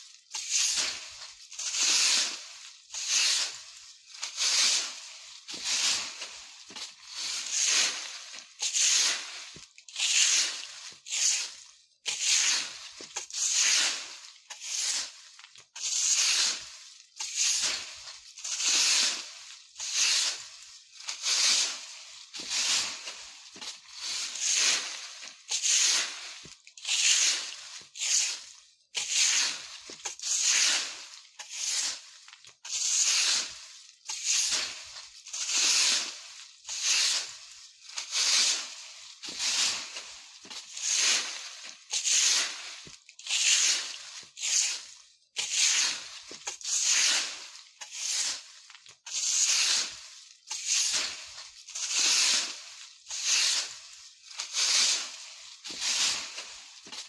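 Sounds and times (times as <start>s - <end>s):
broom sweeping dry leaves: 0.0s - 57.0s.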